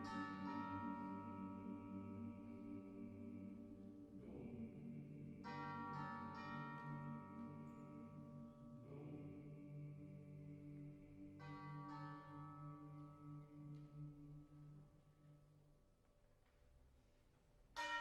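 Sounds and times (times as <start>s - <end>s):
choir singing soft chords: 0.0s - 15.7s.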